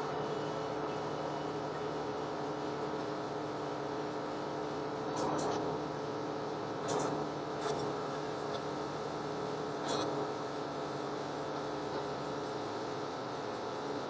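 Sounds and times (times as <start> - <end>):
car cabin hum and hiss: 0.0 - 14.0.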